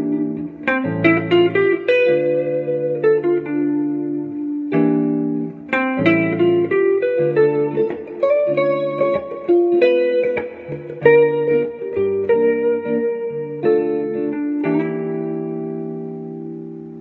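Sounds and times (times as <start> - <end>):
clean electric guitar melody: 0.0 - 17.0
looped chord backing: 0.0 - 17.0.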